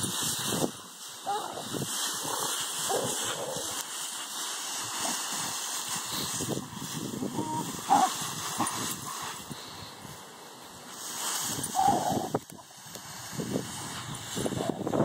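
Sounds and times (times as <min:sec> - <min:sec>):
dry leaves rustling and crunching: 0:00.0 - 0:15.0.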